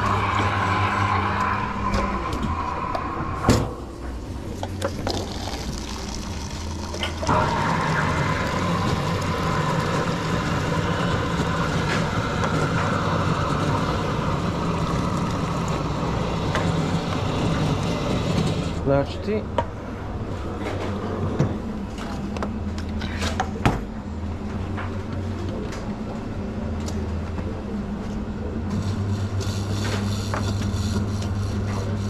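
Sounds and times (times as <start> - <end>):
mechanical hum of equipment: 0.0 - 32.0.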